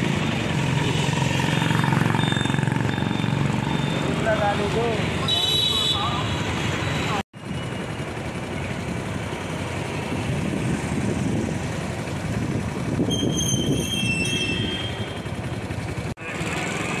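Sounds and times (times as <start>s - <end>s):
street traffic rumbling: 0.0s - 17.0s.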